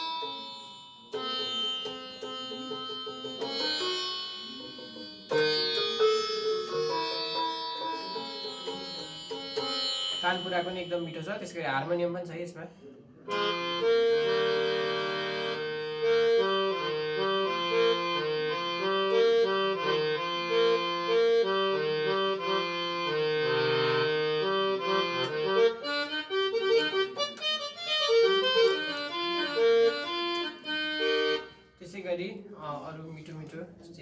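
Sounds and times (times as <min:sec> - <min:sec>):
keyboard harmonium melody: 0:00.0 - 0:32.4.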